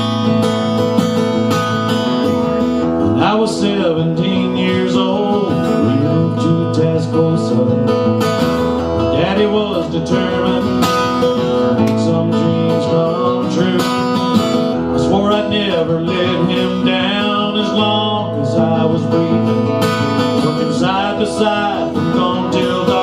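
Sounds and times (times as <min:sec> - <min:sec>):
melodic lead guitar line: 0:00.0 - 0:23.0
strummed acoustic guitar: 0:00.0 - 0:23.0.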